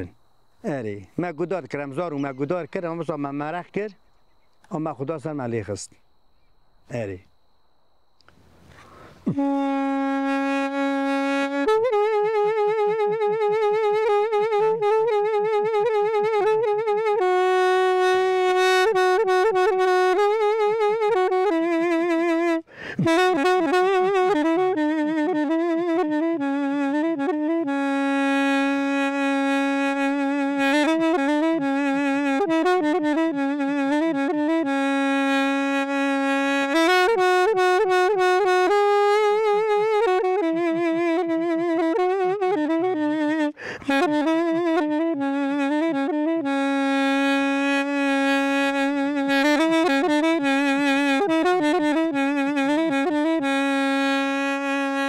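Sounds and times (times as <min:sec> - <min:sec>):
solo wind instrument melody: 0:06.0 - 0:55.0.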